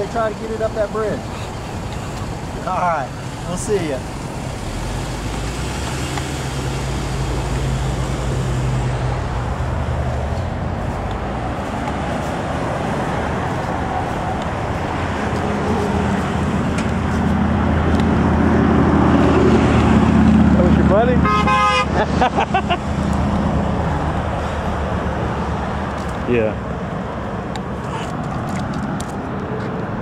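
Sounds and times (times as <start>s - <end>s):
approaching engine: 0.0s - 30.0s
car engine humming: 0.0s - 30.0s
cars and trucks driving past: 0.0s - 30.0s.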